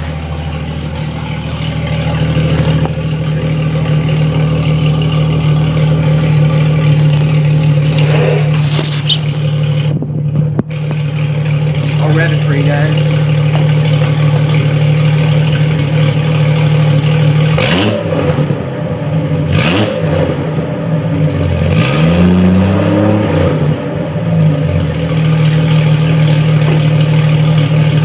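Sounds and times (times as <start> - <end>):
loud engine idling and revving: 0.0 - 28.0.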